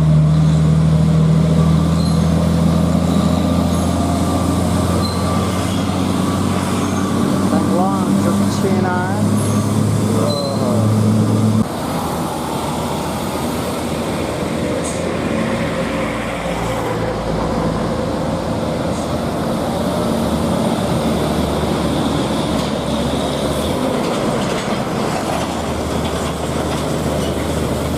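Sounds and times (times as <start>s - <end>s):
heavy truck rumbling: 0.0s - 27.9s.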